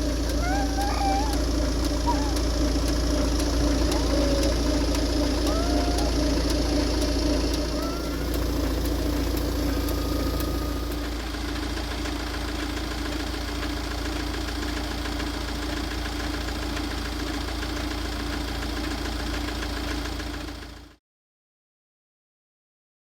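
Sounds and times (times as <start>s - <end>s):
diesel engine idling with knocking: 0.0s - 21.0s.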